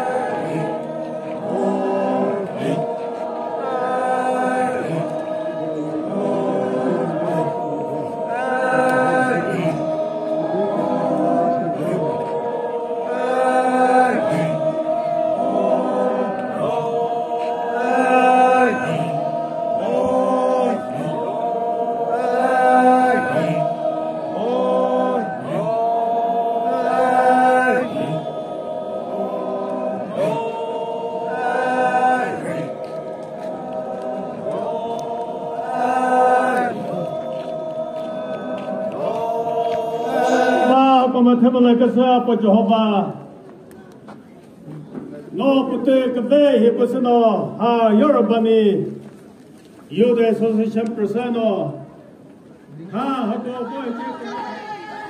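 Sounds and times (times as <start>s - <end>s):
men chanting unaccompanied: 0.0s - 43.2s, 53.0s - 55.0s.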